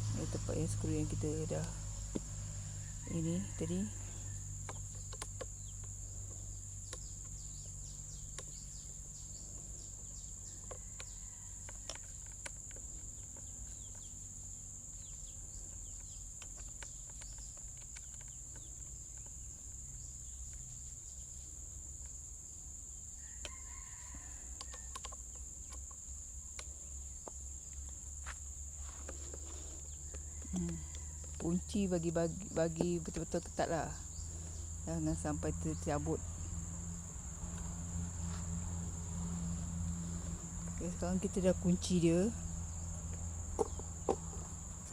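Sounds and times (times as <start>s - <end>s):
crickets droning: 0.0s - 44.9s.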